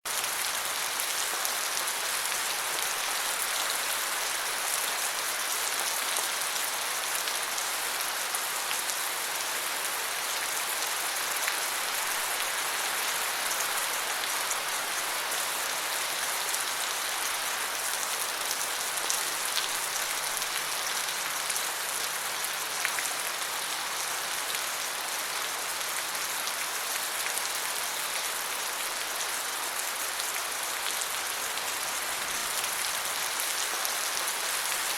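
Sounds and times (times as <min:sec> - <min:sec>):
rain falling on leaves: 0:00.1 - 0:34.9.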